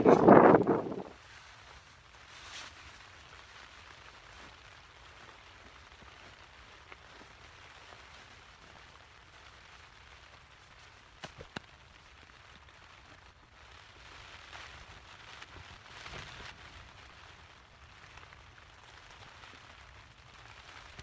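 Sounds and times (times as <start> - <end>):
rain on tent fabric: 0.0 - 21.0.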